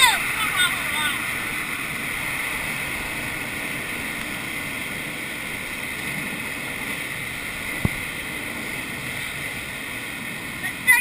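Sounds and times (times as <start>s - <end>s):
rushing air past canopy: 0.0s - 11.0s.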